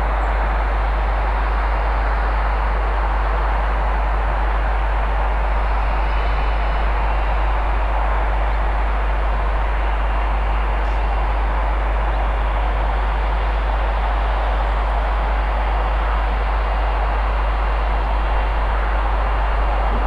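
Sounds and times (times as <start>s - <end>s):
loud steady rumbling: 0.0s - 20.0s.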